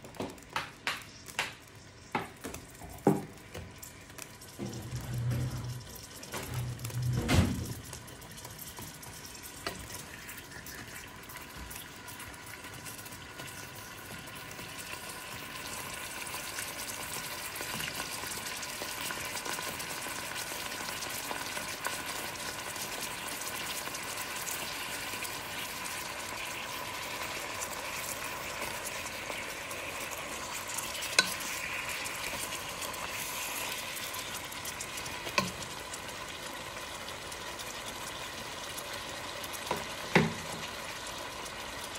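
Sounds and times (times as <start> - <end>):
fish sizzling in a pot: 0.0 - 41.9.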